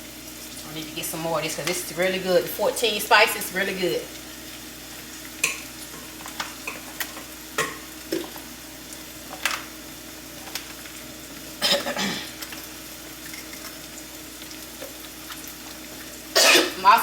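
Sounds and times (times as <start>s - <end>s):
peppers sizzling in a skillet: 0.0s - 17.0s.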